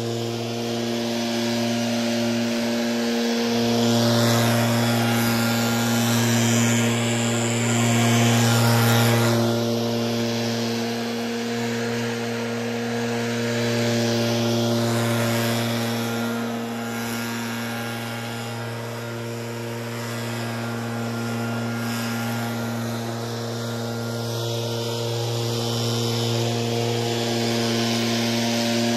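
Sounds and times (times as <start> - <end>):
leaf blowers running: 0.0 - 28.9.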